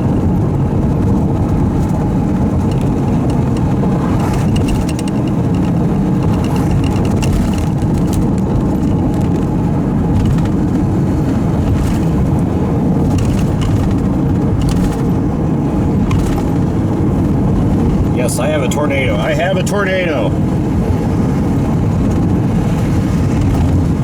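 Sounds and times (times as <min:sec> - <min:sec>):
vehicle road and engine rumble: 0:00.0 - 0:24.0
wind noise: 0:00.0 - 0:24.0.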